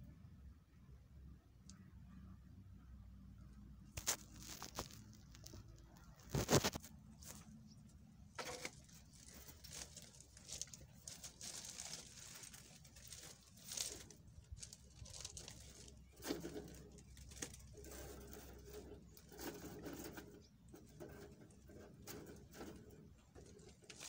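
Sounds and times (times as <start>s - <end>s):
wire mesh rustling on gravel: 4.0s - 24.0s.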